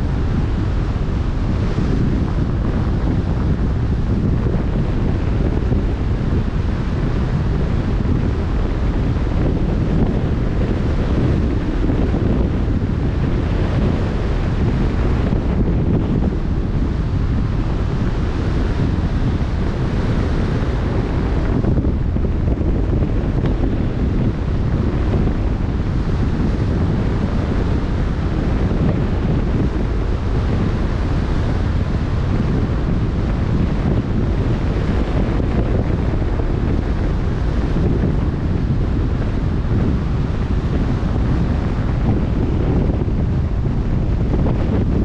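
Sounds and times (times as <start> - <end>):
choppy ocean waves: 0.0 - 45.0
wind buffeting microphone: 0.0 - 45.0.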